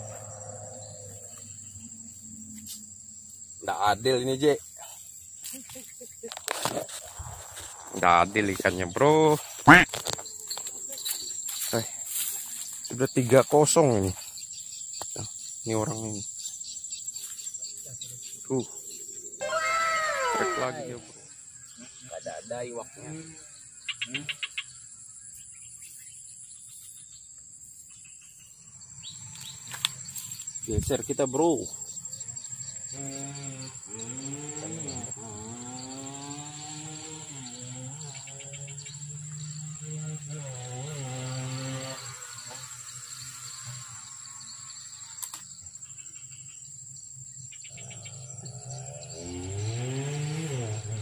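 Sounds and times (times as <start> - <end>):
insects buzzing: 0.0 - 51.0.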